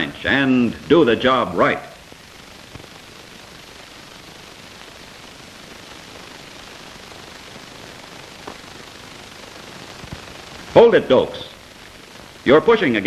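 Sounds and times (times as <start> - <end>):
soundtrack hiss: 0.0 - 13.0.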